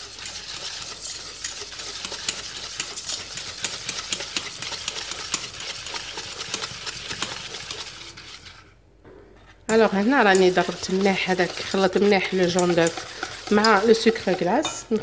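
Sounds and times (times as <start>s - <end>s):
whisk scraping metal bowl: 0.0s - 8.8s, 9.4s - 15.0s.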